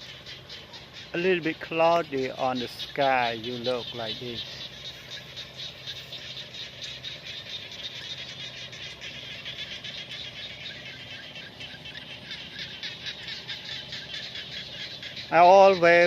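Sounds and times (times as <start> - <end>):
frogs calling in chorus: 0.0 - 16.0
low steady hum: 0.0 - 16.0.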